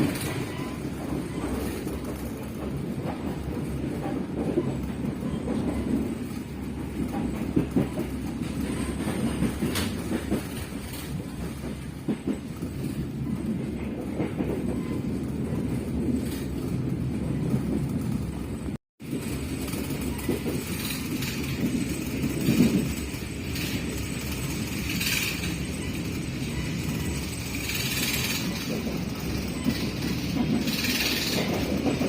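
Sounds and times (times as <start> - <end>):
train carriage rumble: 0.0 - 32.0
wheels clicking over rail joints: 0.0 - 32.0.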